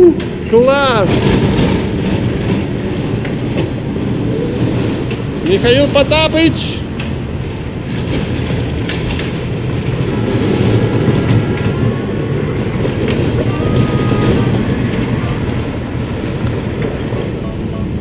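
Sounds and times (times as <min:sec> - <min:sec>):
ride motor and wheels rumbling: 0:00.0 - 0:18.0
wheels clicking on rails: 0:00.0 - 0:18.0.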